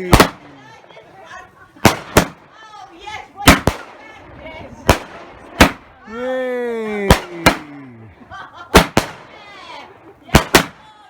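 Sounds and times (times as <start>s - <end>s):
fireworks bangs: 0.0s - 6.1s, 6.9s - 11.0s
faint crowd voices: 0.0s - 11.0s.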